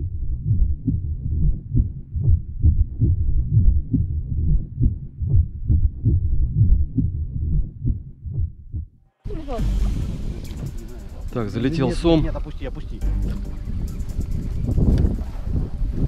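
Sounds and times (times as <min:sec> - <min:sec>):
deep low pulsing thuds: 0:00.0 - 0:16.0.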